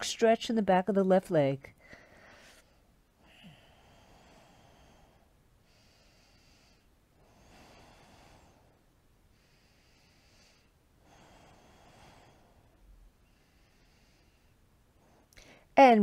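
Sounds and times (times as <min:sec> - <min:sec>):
slow throat breathing: 0:01.8 - 0:15.7.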